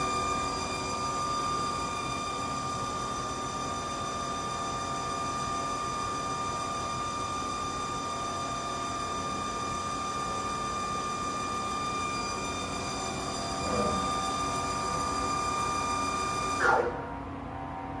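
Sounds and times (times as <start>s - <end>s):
lathe spindle whine: 0.0s - 18.0s.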